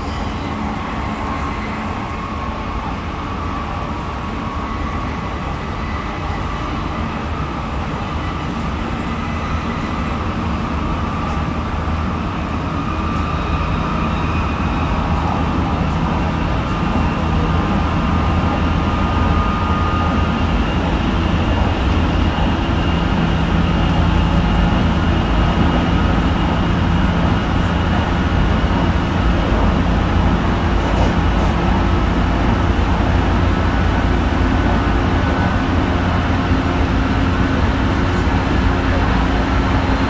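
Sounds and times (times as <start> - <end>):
train wheel-on-rail noise: 0.0 - 40.0.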